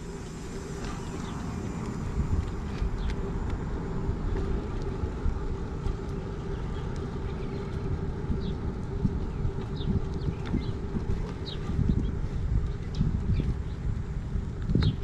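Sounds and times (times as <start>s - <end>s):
bicycle tyre hum on concrete: 0.0s - 15.0s
wind rumbling on microphone: 0.0s - 15.0s.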